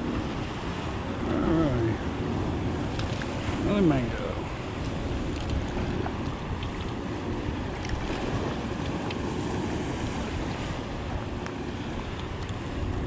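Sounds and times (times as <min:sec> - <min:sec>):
water lapping around boat: 0:00.0 - 0:13.0
wind buffeting microphone: 0:00.0 - 0:13.0.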